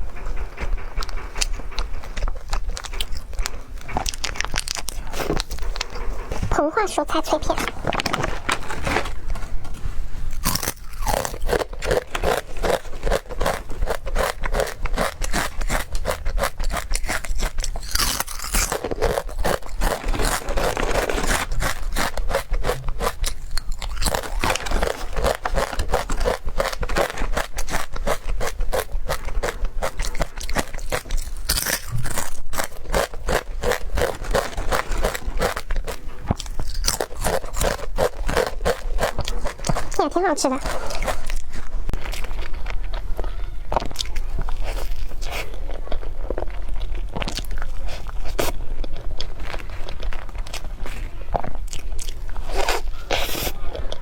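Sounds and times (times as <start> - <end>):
crunching and chewing crisps: 0.6 - 54.0.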